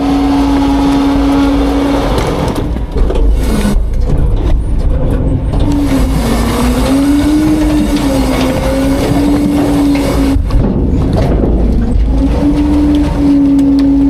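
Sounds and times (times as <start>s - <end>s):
garbage truck diesel engine: 0.0s - 14.0s
hydraulic whine: 0.0s - 14.0s.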